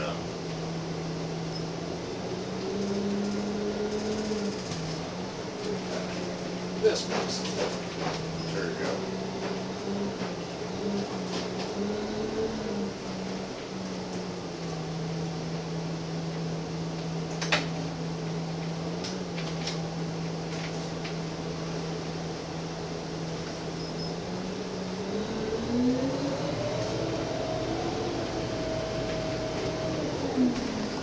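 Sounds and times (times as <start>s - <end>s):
bus diesel engine humming: 0.0s - 31.0s.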